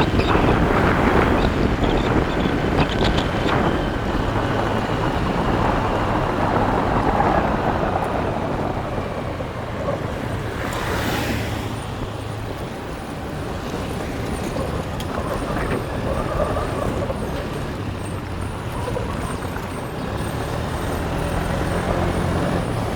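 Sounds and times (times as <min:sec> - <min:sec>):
wind and road noise: 0:00.0 - 0:22.9.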